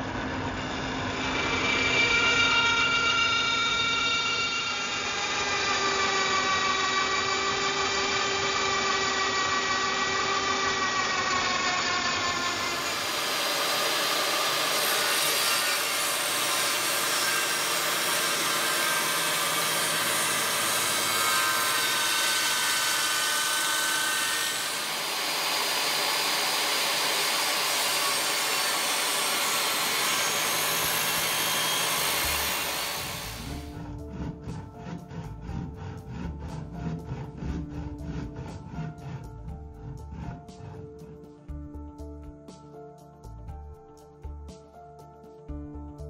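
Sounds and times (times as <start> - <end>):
table saw cutting wood: 0.0 - 41.5.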